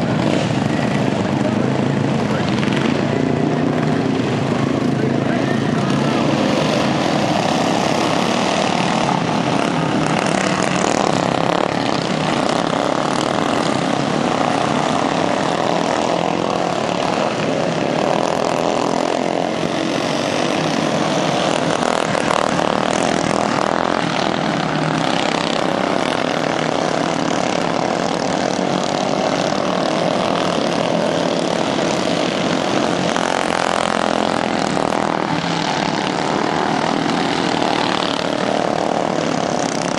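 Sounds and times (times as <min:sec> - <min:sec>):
racing lawnmower engines: 0:00.0 - 0:39.9.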